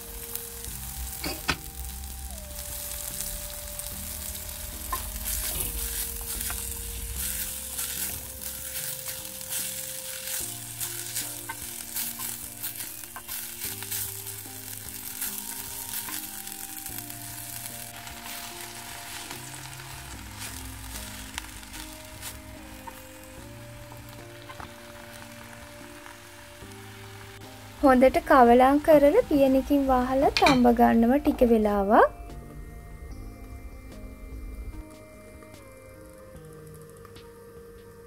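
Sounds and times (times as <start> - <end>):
onions sizzling in hot oil: 0.0 - 37.4
soft background music: 0.0 - 38.0.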